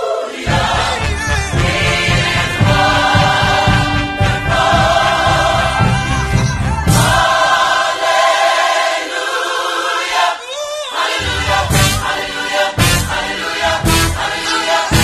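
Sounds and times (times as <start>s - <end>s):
music with choir-like vocals: 0.0s - 15.0s.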